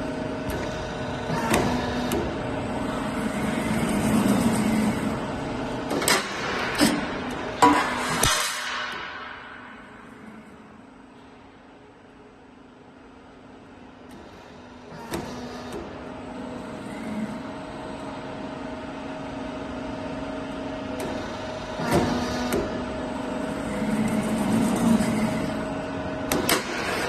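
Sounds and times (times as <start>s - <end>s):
roll forming machine humming: 0.0s - 27.0s.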